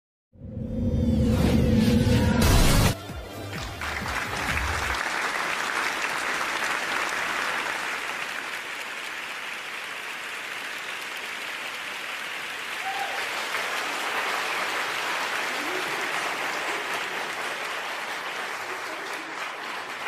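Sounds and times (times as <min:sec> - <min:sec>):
audience applauding: 0:03.1 - 0:20.0.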